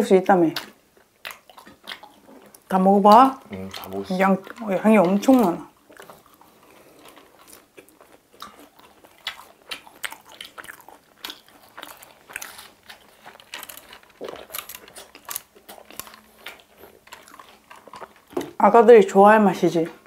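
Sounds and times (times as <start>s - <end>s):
crunching and chewing fried chicken: 0.0s - 20.0s.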